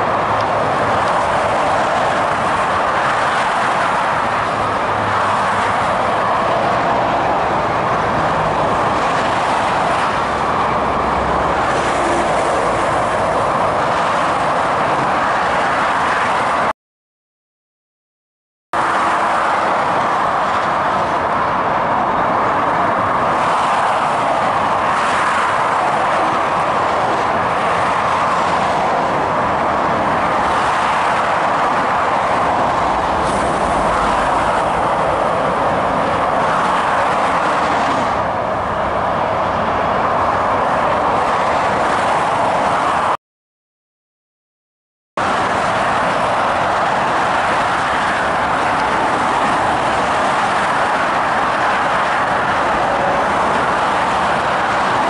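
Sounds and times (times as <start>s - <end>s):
motorway traffic roar: 0.0s - 16.7s, 18.8s - 43.2s, 45.2s - 55.0s.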